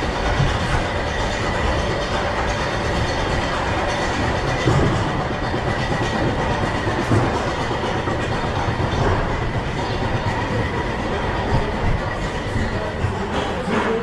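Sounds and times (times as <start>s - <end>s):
roller coaster rumbling and rattling: 0.0s - 14.0s.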